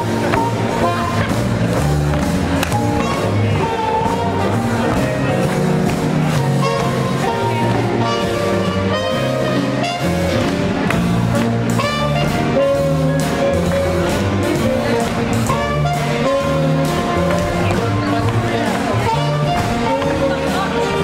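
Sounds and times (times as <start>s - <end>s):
trumpets and trombone: 0.0s - 1.7s, 2.8s - 5.3s, 6.3s - 21.0s
drums: 0.0s - 21.0s
piano: 0.0s - 21.0s
walking upright bass: 0.0s - 21.0s.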